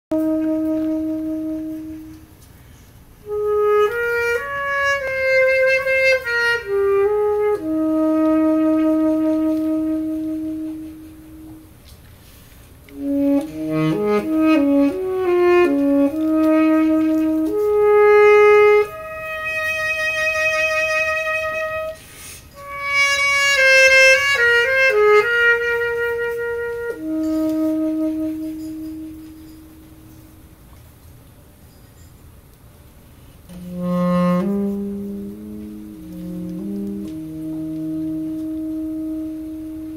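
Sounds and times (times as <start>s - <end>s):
saxophones playing melody: 0.1s - 30.8s, 33.4s - 39.9s.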